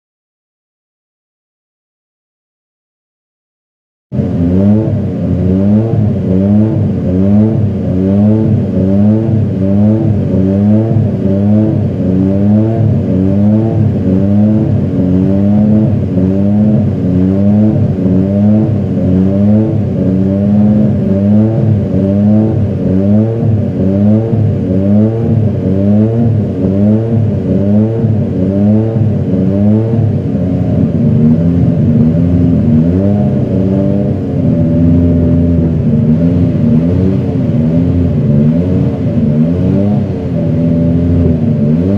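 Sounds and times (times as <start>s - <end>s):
racing engine revving: 4.2s - 41.9s.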